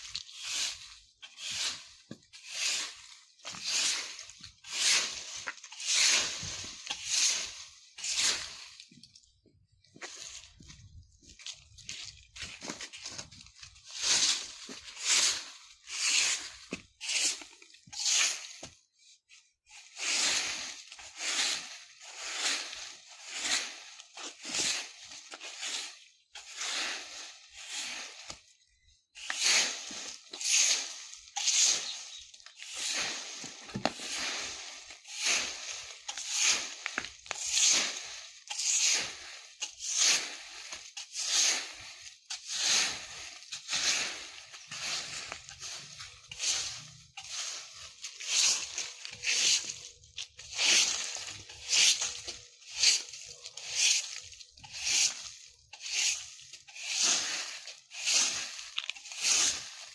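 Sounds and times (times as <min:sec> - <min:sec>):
broom sweeping dry leaves: 0:00.0 - 0:09.2, 0:09.9 - 0:59.9.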